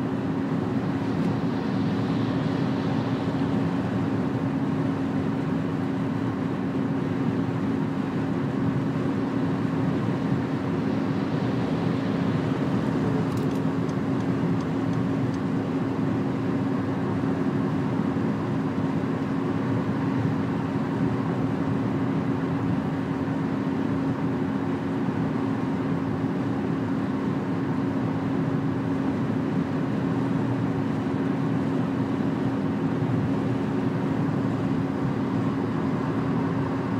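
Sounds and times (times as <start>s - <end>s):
constant low hum: 0.0s - 36.9s
road and engine noise in car: 0.0s - 36.9s.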